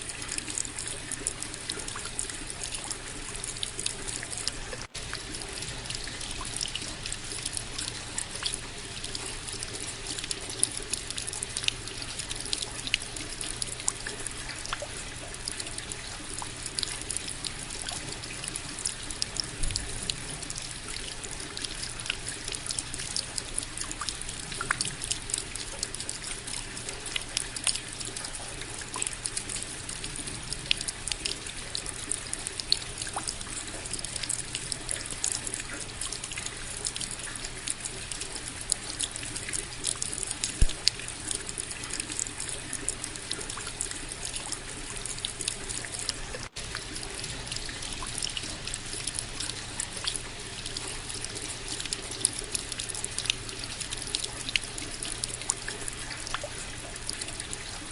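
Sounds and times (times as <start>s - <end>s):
raindrops ticking: 0.0s - 57.9s
steady rain: 0.0s - 57.9s
water trickling: 0.0s - 57.9s.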